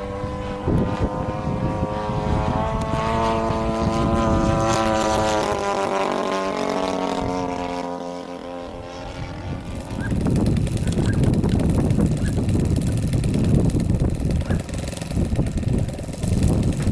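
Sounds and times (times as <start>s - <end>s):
model airplane engine buzzing: 0.0s - 16.9s
rough rumble: 0.0s - 16.9s.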